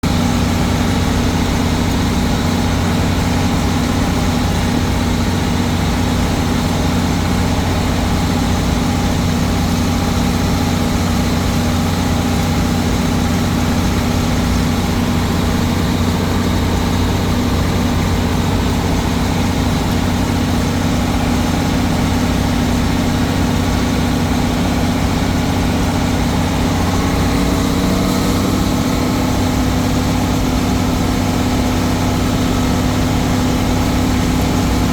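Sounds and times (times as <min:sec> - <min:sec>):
tractor engine droning: 0:00.0 - 0:34.9.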